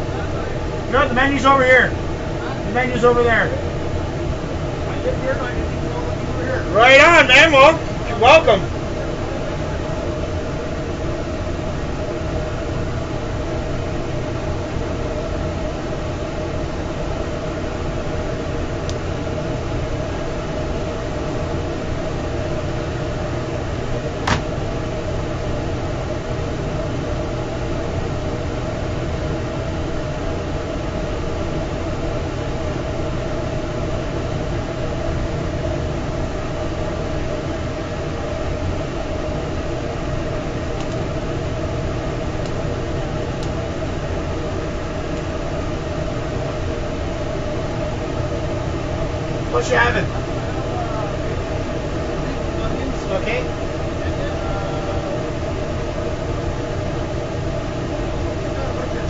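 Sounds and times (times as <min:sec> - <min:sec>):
mechanical hum and whir: 0:00.0 - 0:59.0.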